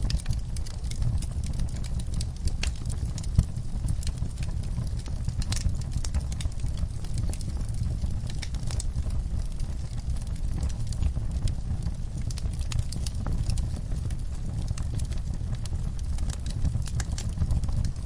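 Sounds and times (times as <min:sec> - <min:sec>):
fire rumbling: 0:00.0 - 0:18.0
wood fire crackling and popping: 0:00.0 - 0:18.0.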